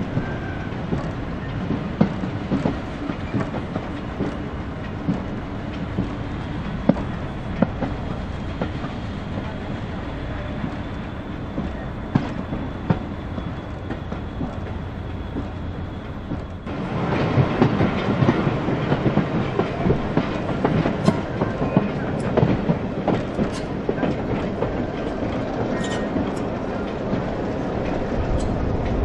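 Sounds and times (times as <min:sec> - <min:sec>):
train wheels rumbling on rails: 0:00.0 - 0:29.0
wheels clicking over rail joints: 0:00.0 - 0:29.0.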